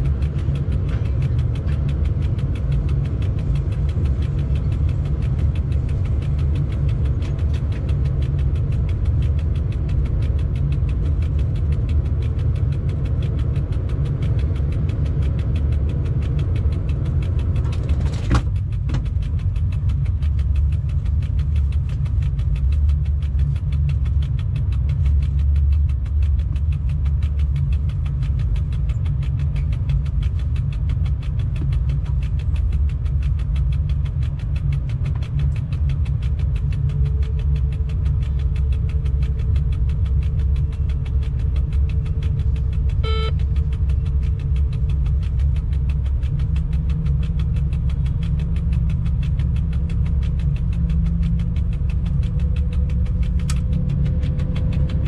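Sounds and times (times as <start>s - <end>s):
locomotive low rumble: 0.0s - 55.0s.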